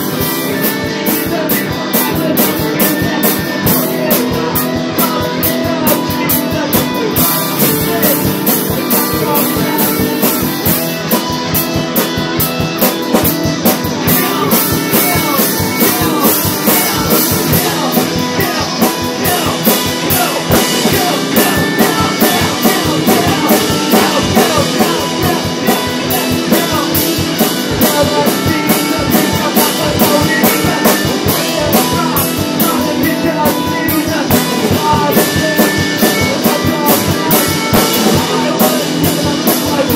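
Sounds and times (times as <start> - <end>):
drum kit: 0.0 - 39.9
guitar: 0.0 - 39.9.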